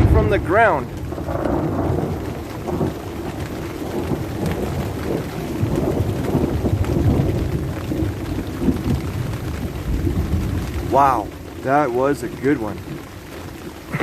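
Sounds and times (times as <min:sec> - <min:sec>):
rain falling and pattering: 0:00.0 - 0:14.0
thunder rumbling: 0:00.0 - 0:14.0.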